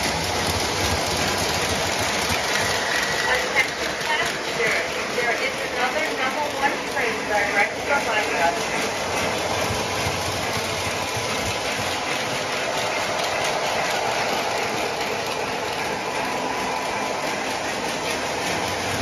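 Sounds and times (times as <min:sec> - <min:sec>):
model train rolling: 0:00.0 - 0:19.0.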